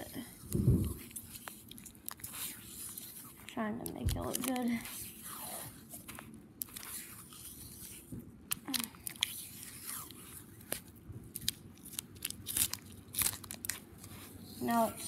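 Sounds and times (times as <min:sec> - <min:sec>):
tape peeling off roll: 0:00.0 - 0:14.6.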